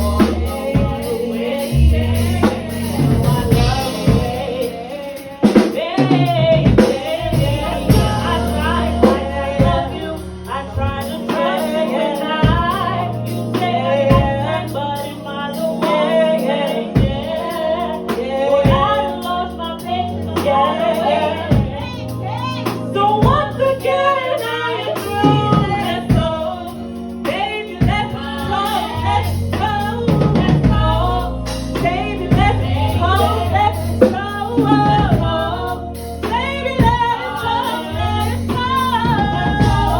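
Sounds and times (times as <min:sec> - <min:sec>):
bass: 0:00.0 - 0:39.9
drum kit: 0:00.0 - 0:39.9
women singing: 0:00.0 - 0:39.9.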